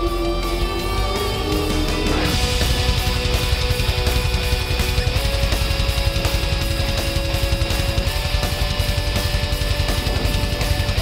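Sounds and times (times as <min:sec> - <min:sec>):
heavy rock music: 0:00.0 - 0:11.0.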